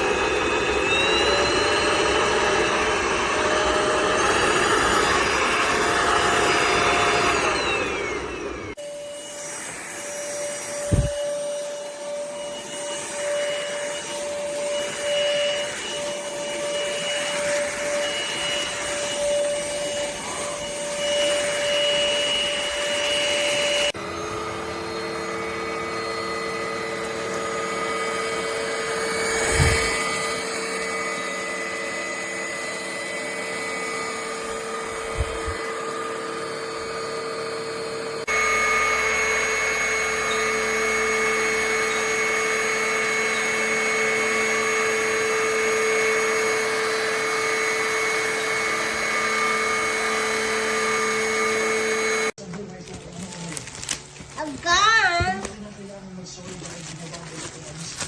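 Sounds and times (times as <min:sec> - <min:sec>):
vacuum cleaner motor whine: 0:00.0 - 0:52.4.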